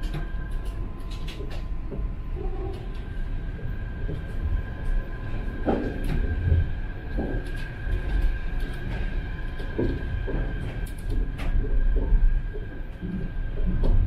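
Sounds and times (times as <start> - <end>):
monorail car low rumble: 0.0 - 14.0.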